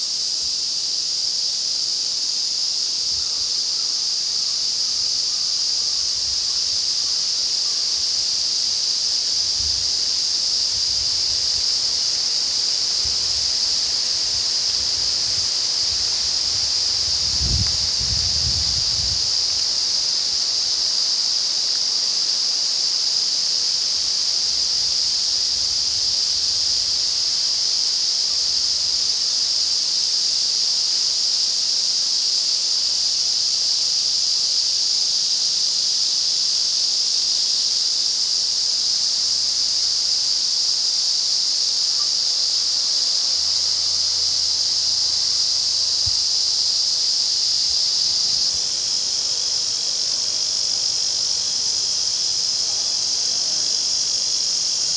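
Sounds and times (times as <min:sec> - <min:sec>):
cicadas droning: 0:00.0 - 0:54.9.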